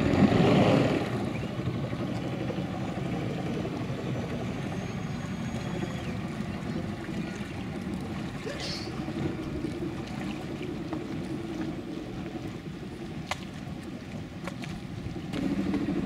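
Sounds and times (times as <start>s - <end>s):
speedboat engine idling: 0.0s - 16.0s.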